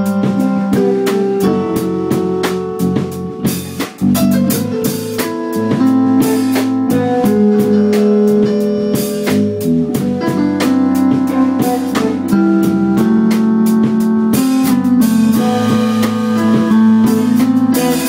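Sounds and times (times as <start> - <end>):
held keyboard chords: 0.0 - 18.0
steady drum beat: 0.0 - 18.0.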